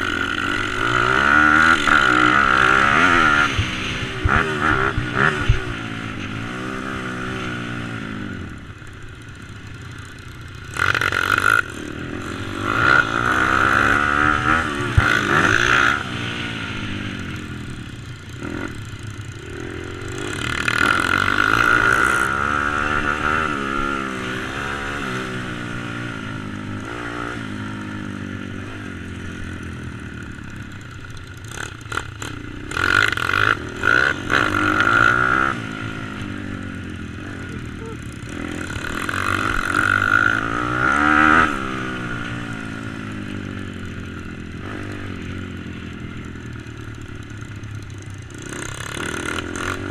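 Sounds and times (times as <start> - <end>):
motorbike engine revving: 0.0 - 49.9.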